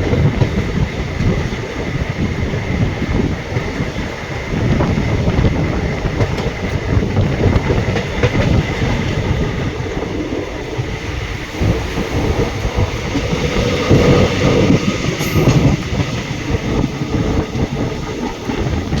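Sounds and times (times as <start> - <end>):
train rumbling along track: 0.0 - 19.0.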